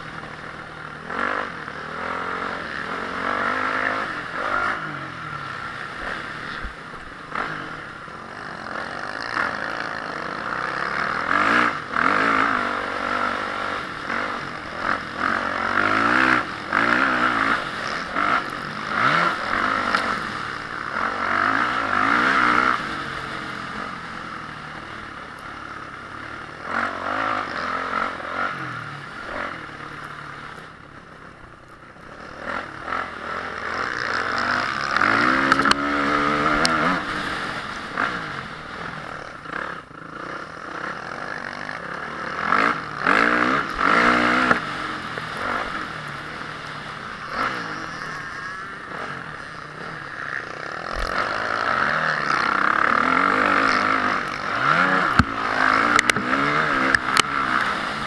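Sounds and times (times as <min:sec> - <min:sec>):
motocross bike engine revving: 0:00.0 - 0:58.0
steady rushing noise: 0:00.0 - 0:58.0.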